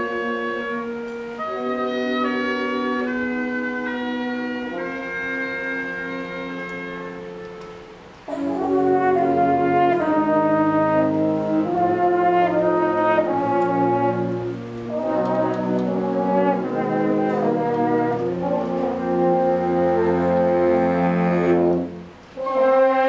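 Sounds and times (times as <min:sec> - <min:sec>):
brass sustained chords: 0:00.0 - 0:23.0
wind band playing: 0:00.0 - 0:23.0.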